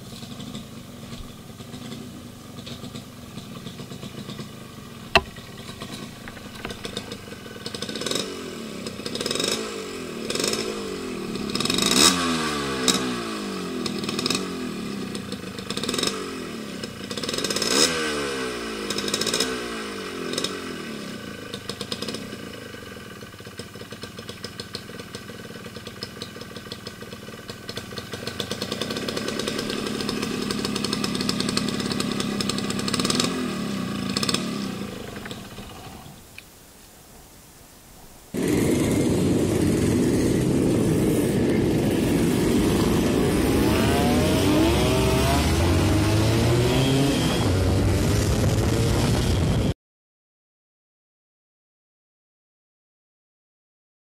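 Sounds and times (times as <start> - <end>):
two-stroke motorcycle engine revving: 0.0 - 36.2, 38.3 - 49.8.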